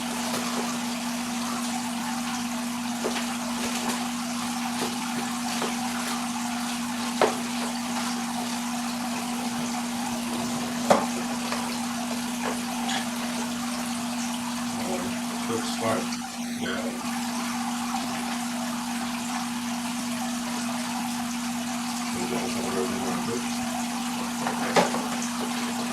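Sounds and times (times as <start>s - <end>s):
steady hum: 0.0s - 25.9s
water rushing and trickling: 0.0s - 25.9s.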